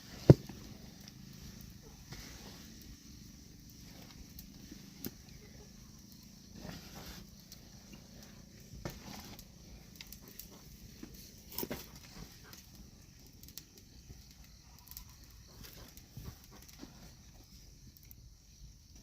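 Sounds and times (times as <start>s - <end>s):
low steady background noise: 0.0s - 19.0s.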